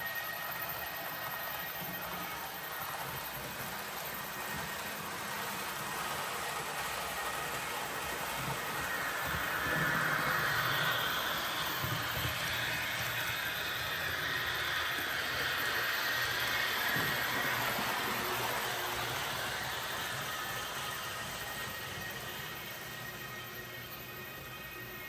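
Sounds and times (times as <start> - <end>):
model train hiss and hum: 0.0 - 25.0.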